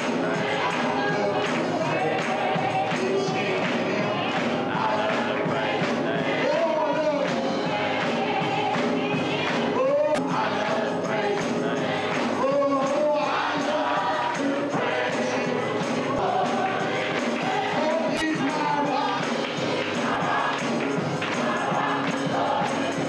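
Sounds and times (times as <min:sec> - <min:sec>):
congregation singing gospel song: 0:00.0 - 0:23.0
percussion: 0:00.0 - 0:23.0
rhythmic hand-clapping: 0:00.0 - 0:23.0.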